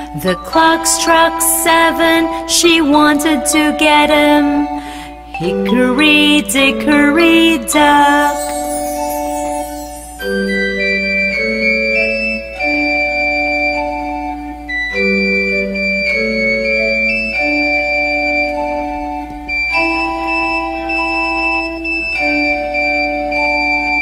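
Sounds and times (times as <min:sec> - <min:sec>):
organ-like keyboard melody: 0:00.0 - 0:24.0.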